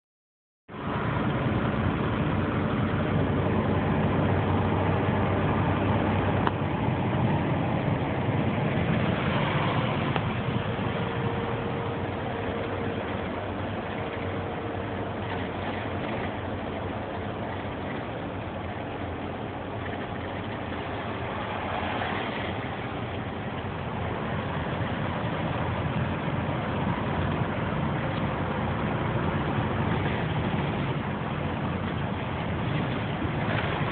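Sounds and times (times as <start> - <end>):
truck diesel engine and road noise: 0.7 - 33.9.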